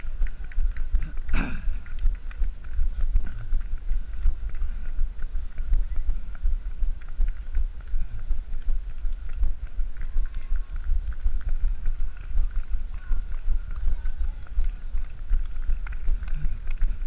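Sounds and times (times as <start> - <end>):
rhythmic footfalls rumble: 0.0 - 17.0.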